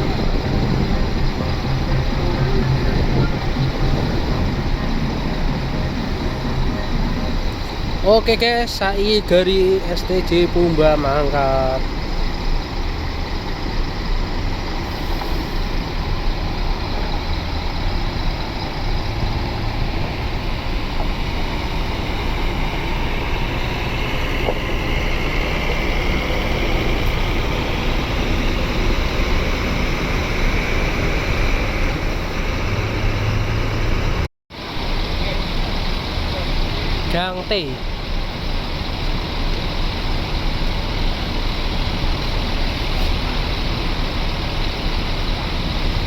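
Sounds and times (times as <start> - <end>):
bus diesel engine pulling away: 0.0 - 46.0
traffic noise: 0.0 - 46.0.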